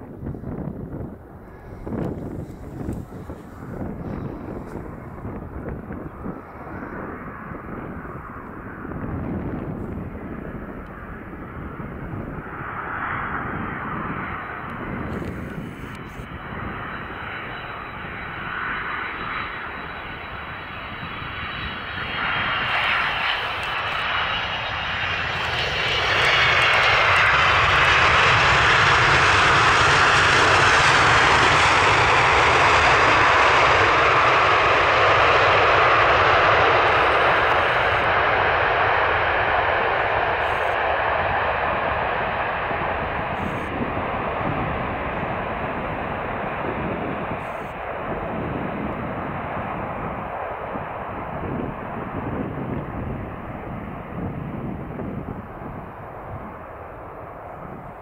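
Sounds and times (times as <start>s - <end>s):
jet engine rumble: 0.0s - 58.0s
jet engines roaring in reverse thrust: 0.9s - 58.0s.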